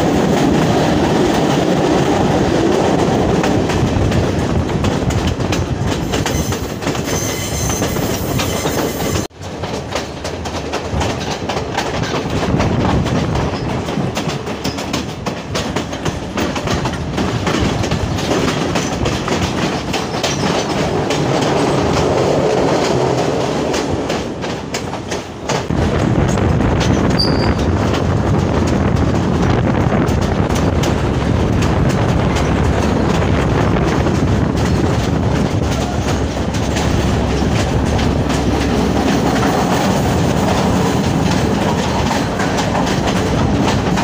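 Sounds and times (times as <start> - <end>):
train running rumble: 0.0 - 44.0
wheels clicking on rails: 0.0 - 44.0.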